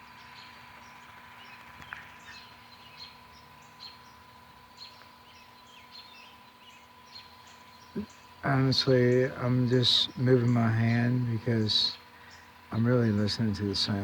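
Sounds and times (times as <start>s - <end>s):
distant songbirds chirping: 0.0s - 14.0s.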